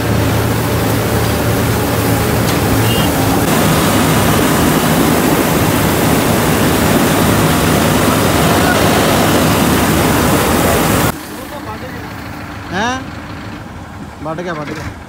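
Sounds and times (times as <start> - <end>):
combine engine running: 0.0 - 15.0.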